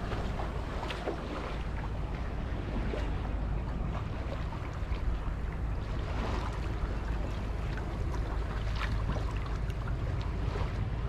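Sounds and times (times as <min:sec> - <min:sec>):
low rumble of wind: 0:00.0 - 0:11.0
water splashing against boat bow: 0:00.0 - 0:11.0.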